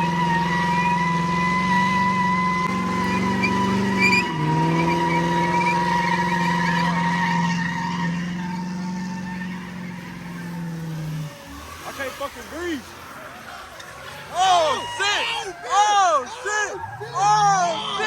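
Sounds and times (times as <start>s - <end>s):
car engine revving: 0.0s - 14.7s
tyres squealing: 0.0s - 18.0s.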